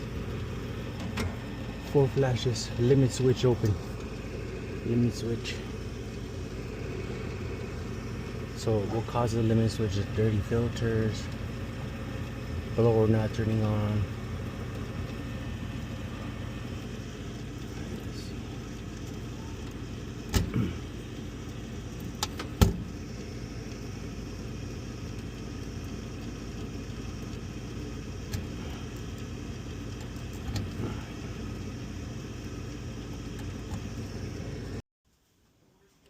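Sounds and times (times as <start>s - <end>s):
gas furnace humming: 0.0s - 36.0s.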